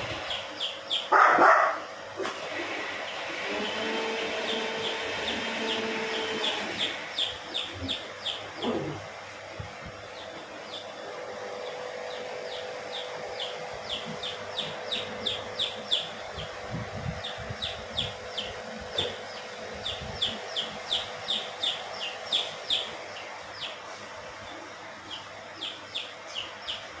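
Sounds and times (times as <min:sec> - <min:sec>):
chicks peeping: 0:00.0 - 0:01.7, 0:02.8 - 0:27.0.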